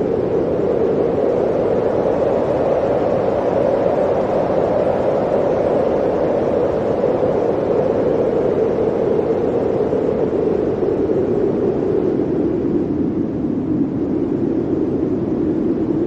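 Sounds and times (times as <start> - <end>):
blizzard wind howling: 0.0 - 16.0.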